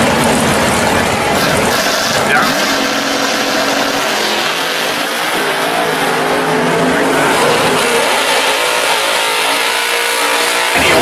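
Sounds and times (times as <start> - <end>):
drag car engine revving: 0.0 - 11.0
second car engine running: 0.0 - 11.0.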